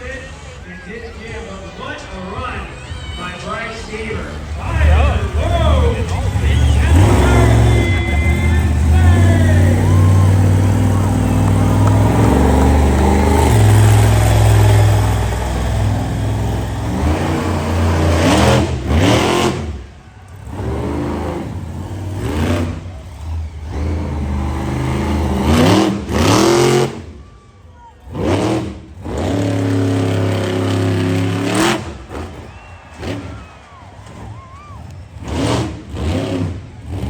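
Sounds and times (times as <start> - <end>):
truck engine revving: 1.9 - 37.0.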